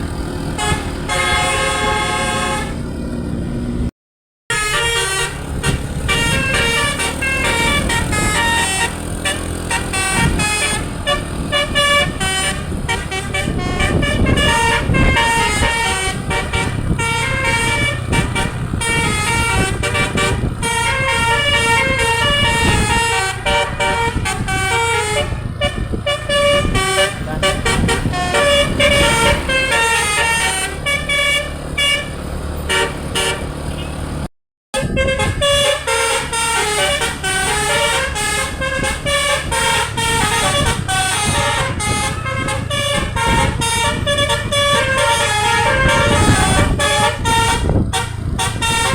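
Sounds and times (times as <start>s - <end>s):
low engine rumble: 0.0s - 3.9s, 4.5s - 48.9s
musical air horn melody: 0.6s - 2.9s, 4.5s - 33.9s, 34.7s - 48.9s.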